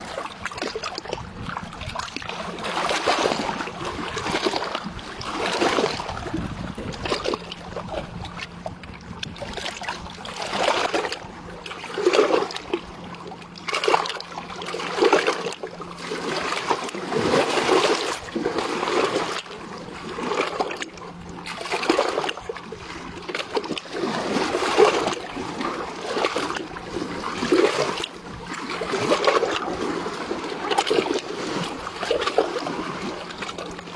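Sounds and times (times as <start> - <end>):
river water splashing: 0.0 - 33.9.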